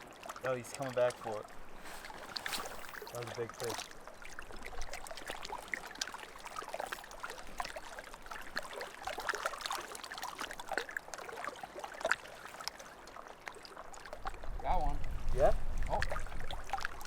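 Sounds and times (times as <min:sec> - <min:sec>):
water lapping and trickling: 0:00.0 - 0:17.0.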